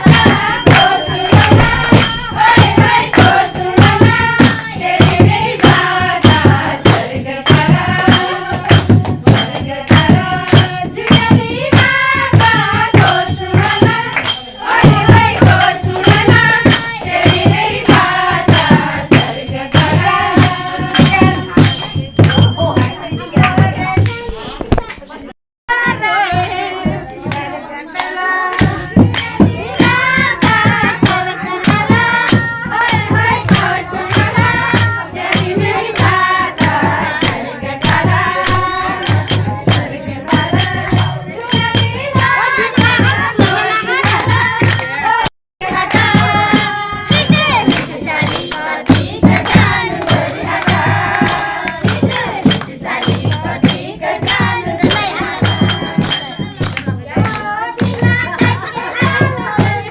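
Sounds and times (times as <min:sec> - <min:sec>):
jingling tambourine: 0:00.0 - 0:24.2, 0:25.7 - 0:59.9
hand percussion beat: 0:00.0 - 0:24.7, 0:25.7 - 0:59.9
voices singing: 0:00.0 - 0:59.9.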